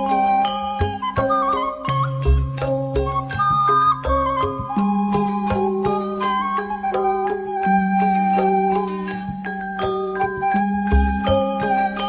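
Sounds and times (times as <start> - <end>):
percussion strikes: 0.0 - 12.0.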